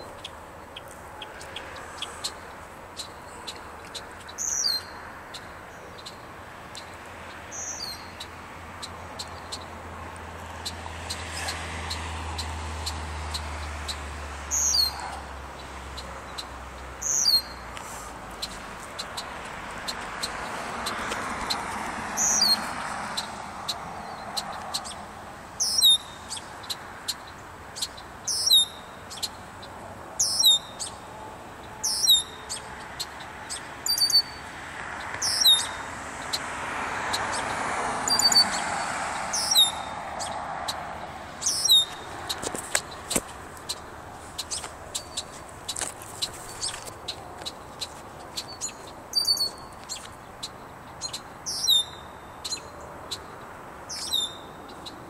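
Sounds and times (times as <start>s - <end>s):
bird calling: 0.0s - 9.8s, 10.6s - 55.0s.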